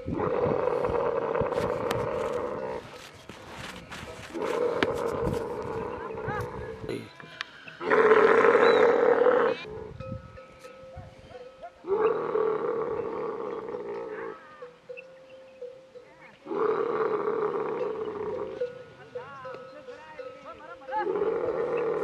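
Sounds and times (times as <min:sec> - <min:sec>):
camel bellowing: 0:00.0 - 0:09.9, 0:11.1 - 0:15.1, 0:16.2 - 0:19.4, 0:20.5 - 0:22.0.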